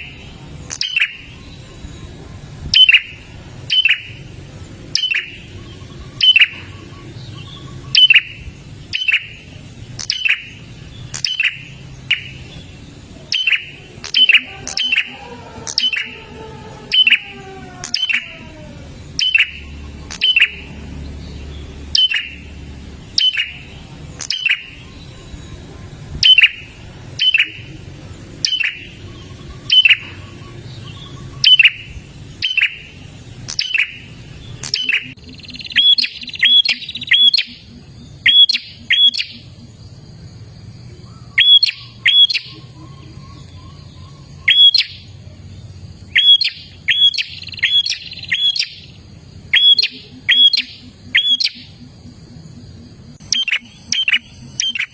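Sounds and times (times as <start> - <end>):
bird calling sharp notes: 0.0 - 39.8, 40.9 - 45.2, 46.1 - 54.9.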